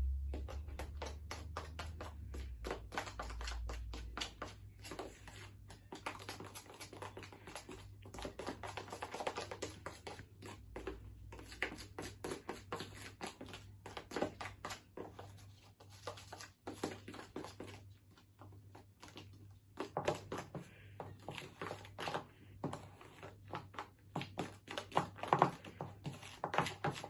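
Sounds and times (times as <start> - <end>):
utensil stirring slime in plastic pot: 0.0 - 27.0.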